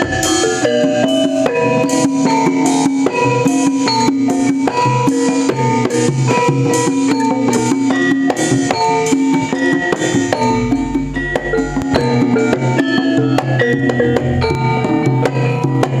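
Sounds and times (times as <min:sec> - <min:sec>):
gamelan ensemble playing: 0:00.0 - 0:16.0
hand drum strokes: 0:00.0 - 0:16.0.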